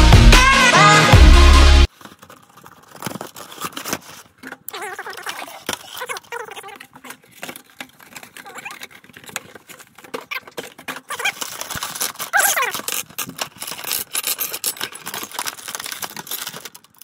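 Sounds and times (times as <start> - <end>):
plastic packaging crackling: 1.9 - 17.0.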